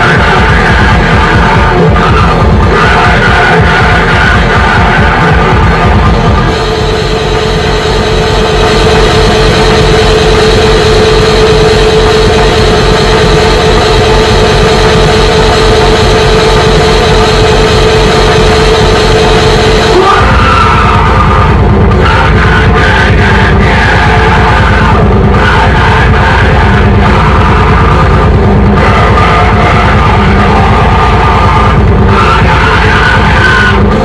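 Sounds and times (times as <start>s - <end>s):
distorted electronic noise: 0.0s - 34.0s
fast low beats: 0.0s - 34.0s
steady droning tone: 0.0s - 34.0s.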